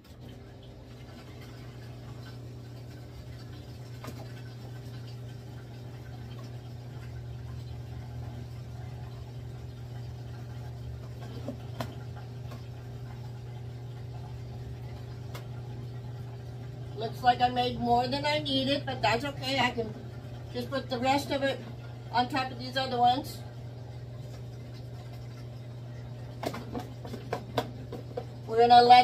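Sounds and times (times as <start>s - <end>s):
low appliance hum: 0.0s - 29.0s.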